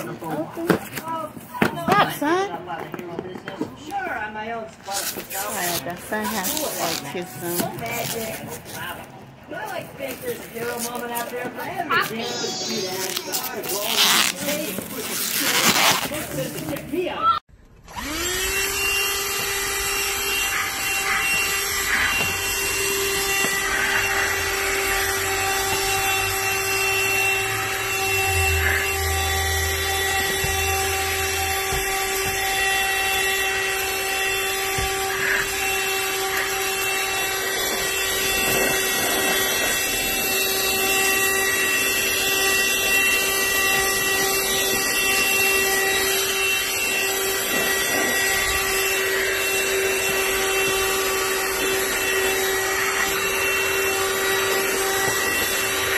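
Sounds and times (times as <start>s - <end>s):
handheld vacuum motor whine: 3.6s - 17.0s, 17.7s - 55.9s.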